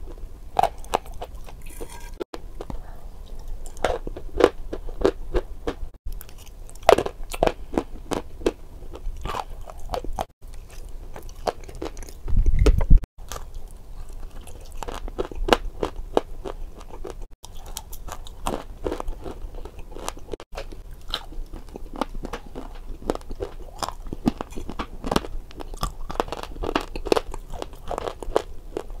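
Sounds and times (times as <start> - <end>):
chewing crunchy food: 0.0 - 29.0.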